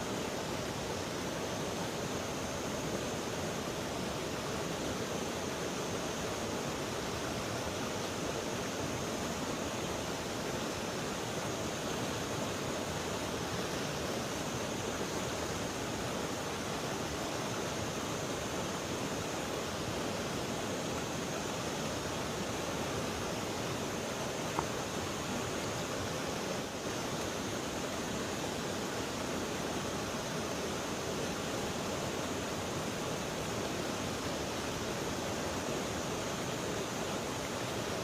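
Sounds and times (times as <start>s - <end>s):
river water rushing: 0.0s - 38.0s.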